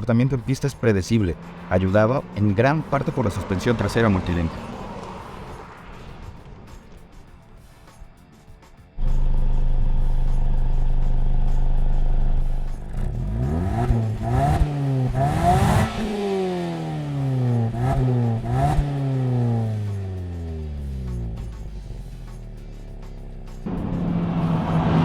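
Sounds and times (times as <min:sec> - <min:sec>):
car engine revving: 0:00.0 - 0:07.0, 0:09.0 - 0:25.0.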